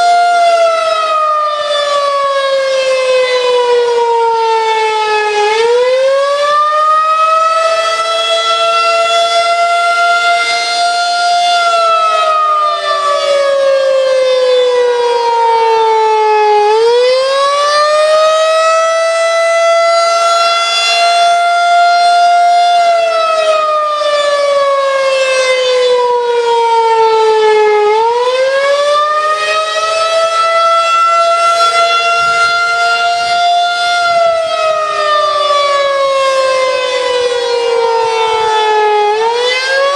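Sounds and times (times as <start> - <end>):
tornado siren wailing: 0.0 - 39.9.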